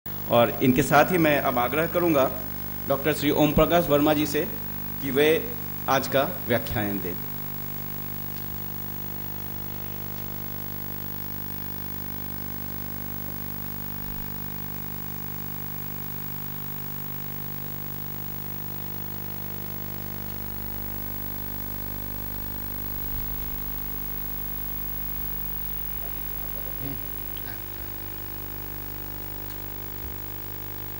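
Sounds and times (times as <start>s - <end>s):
sound system hum with hiss: 0.1s - 30.9s.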